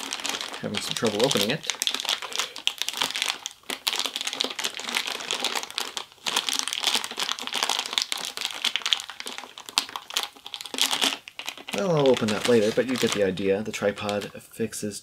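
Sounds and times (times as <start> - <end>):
plastic packaging crinkling: 0.0 - 14.3.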